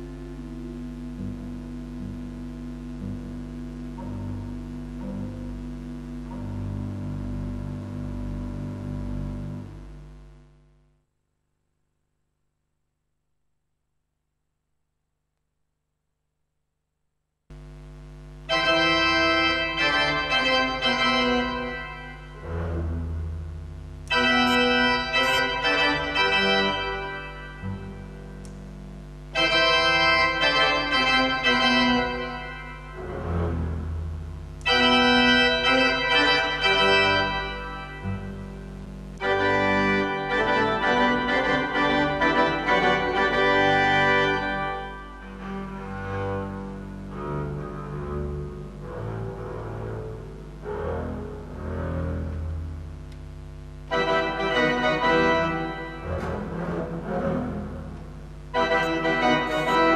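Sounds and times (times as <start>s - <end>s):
pipe organ playing chords: 0.0s - 9.9s, 18.5s - 28.5s, 29.3s - 52.9s, 53.9s - 59.9s.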